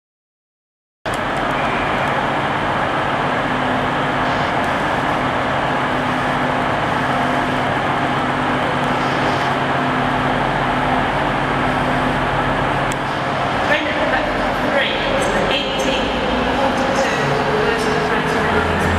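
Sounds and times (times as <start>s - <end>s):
diesel train engines idling: 1.1s - 18.9s.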